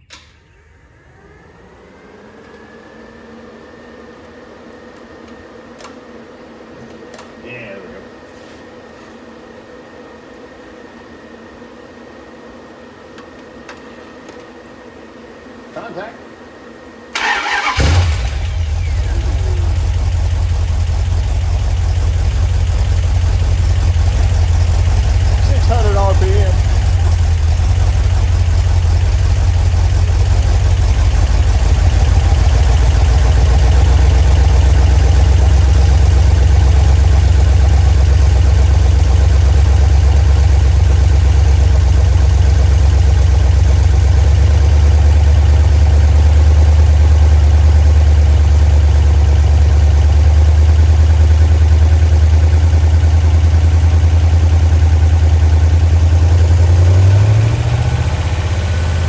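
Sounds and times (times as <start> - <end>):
car engine running: 0.0 - 7.2, 17.2 - 59.0.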